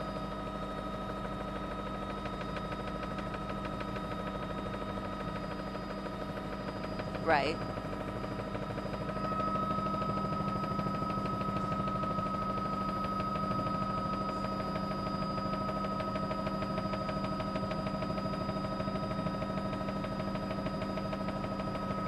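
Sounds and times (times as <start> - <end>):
helicopter rotor beat: 0.0 - 22.0
helicopter turbine whine: 0.0 - 22.0.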